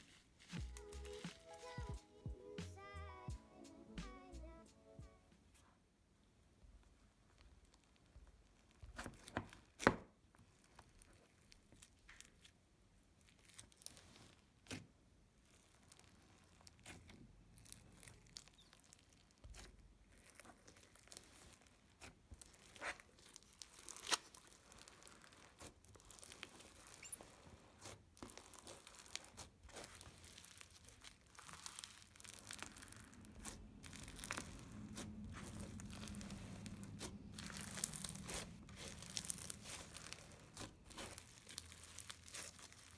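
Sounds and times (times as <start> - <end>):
slime squishing and crackling: 0.0 - 1.9, 6.9 - 42.9.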